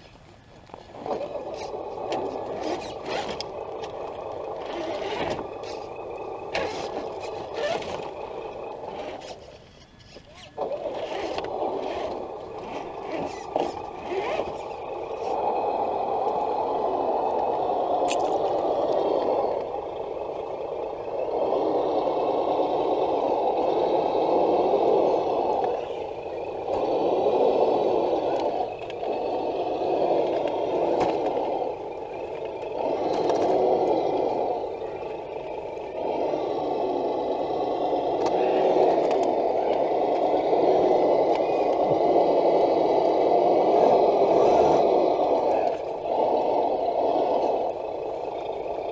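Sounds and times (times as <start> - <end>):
toy truck electric motors whirring: 0.0 - 48.9.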